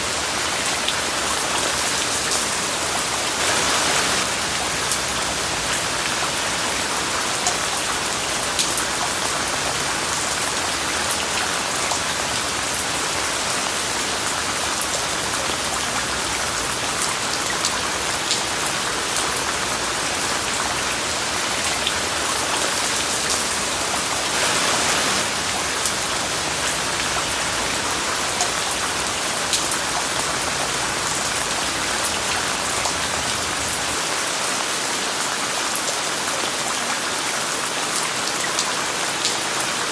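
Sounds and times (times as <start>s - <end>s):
white-noise hiss: 0.0s - 35.0s
steady rain falling: 0.0s - 39.9s.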